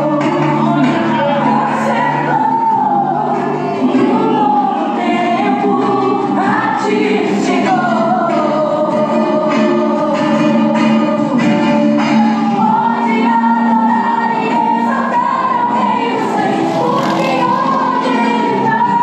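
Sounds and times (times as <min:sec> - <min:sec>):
gospel singing with accompaniment: 0:00.0 - 0:19.0.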